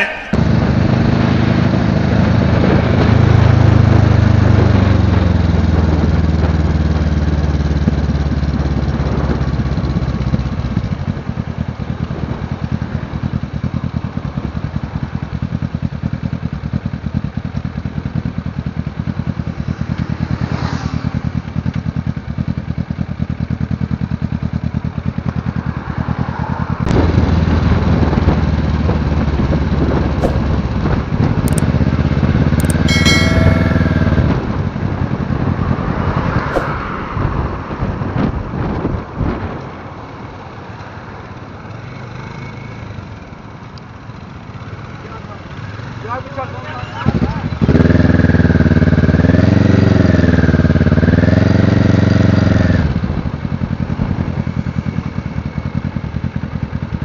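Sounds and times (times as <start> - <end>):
motorcycle engine while riding: 0.4 - 31.6, 32.6 - 34.6, 38.6 - 57.0.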